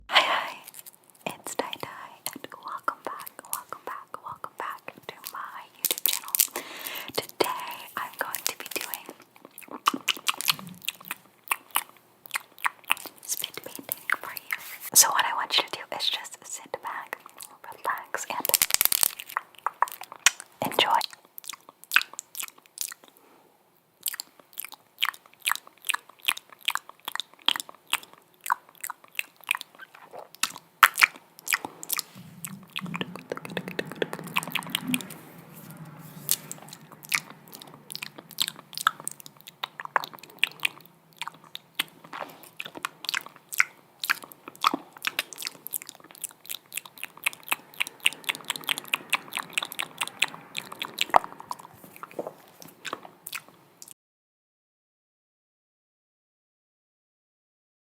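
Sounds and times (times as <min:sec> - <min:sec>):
wet mouth clicks and pops: 0:00.7 - 0:14.4, 0:17.1 - 0:23.1, 0:24.0 - 0:35.1, 0:36.6 - 0:53.9.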